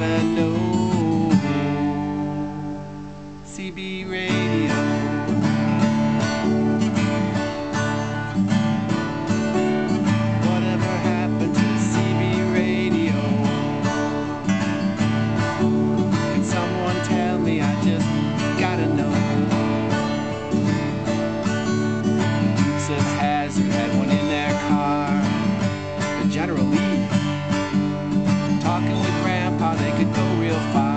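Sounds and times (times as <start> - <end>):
acoustic guitar strumming: 0.0 - 30.9.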